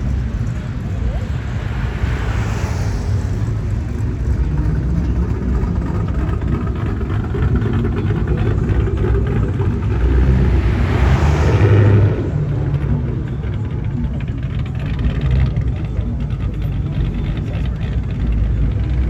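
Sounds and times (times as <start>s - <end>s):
car engines rumbling past: 0.0s - 19.0s.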